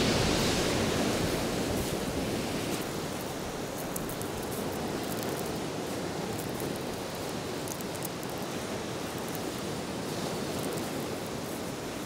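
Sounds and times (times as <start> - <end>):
ocean surf on rocky beach: 0.0 - 12.0.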